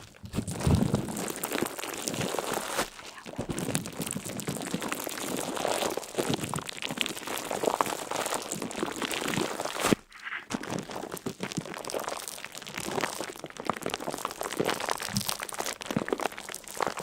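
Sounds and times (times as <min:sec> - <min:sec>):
crinkling and crunching: 0:00.0 - 0:17.0.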